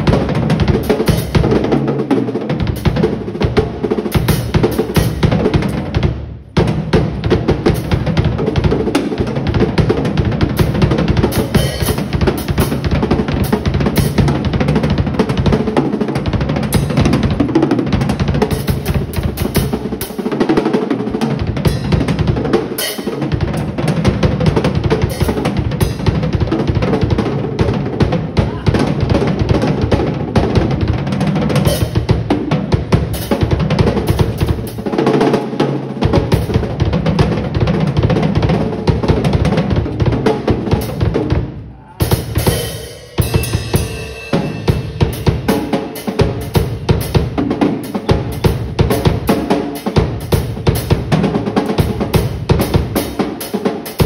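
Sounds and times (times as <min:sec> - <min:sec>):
acoustic drum kit played fast: 0:00.0 - 0:54.0.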